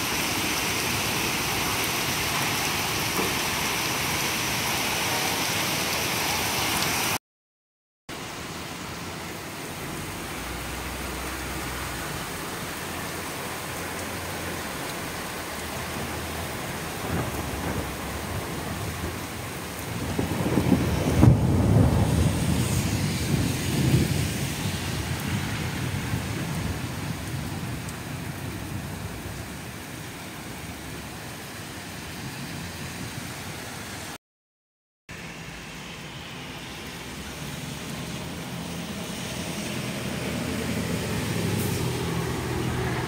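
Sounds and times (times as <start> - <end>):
heavy rain and hail: 0.0 - 7.2, 8.1 - 34.2, 35.1 - 43.0.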